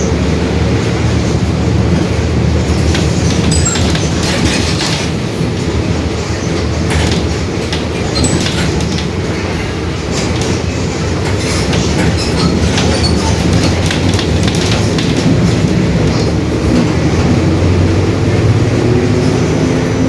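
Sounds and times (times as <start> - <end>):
bus body rattling: 0.0 - 20.0
bus diesel engine: 0.0 - 20.0.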